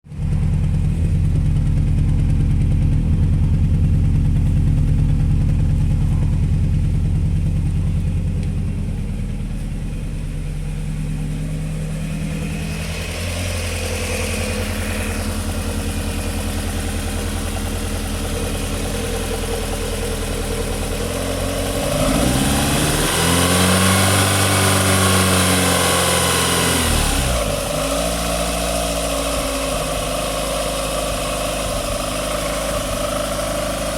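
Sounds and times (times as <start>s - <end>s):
car engine misfiring: 0.2s - 33.9s.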